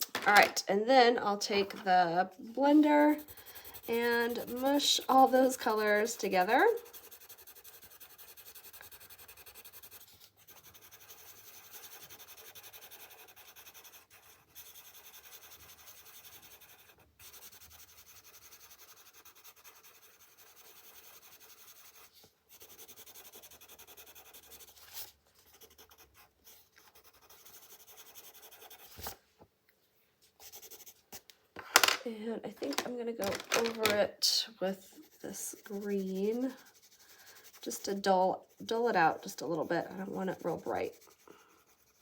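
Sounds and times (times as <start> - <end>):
pencil rubbing on paper: 1.9 - 29.2, 30.4 - 31.1, 34.5 - 42.0.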